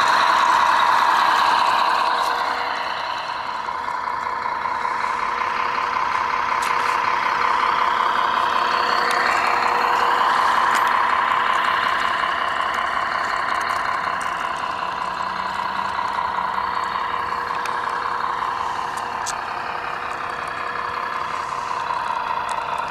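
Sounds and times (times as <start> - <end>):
toy truck motor whine: 0.0 - 22.9.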